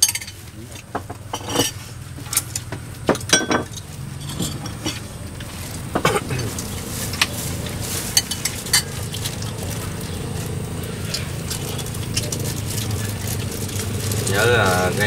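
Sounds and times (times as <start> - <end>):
bowls and utensils clinking: 0.0 - 15.0
steady low hum: 0.0 - 15.0.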